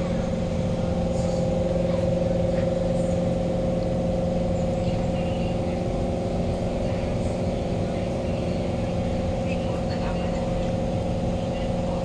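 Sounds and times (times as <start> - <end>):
train equipment droning hum: 0.0 - 12.0.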